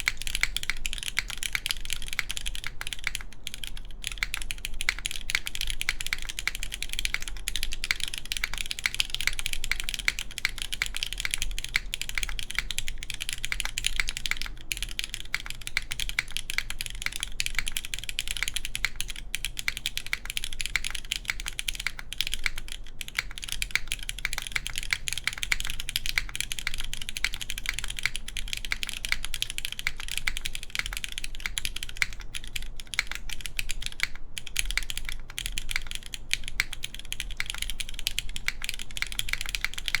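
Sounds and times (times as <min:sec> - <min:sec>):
fast typing on mechanical keyboard: 0:00.0 - 0:40.0.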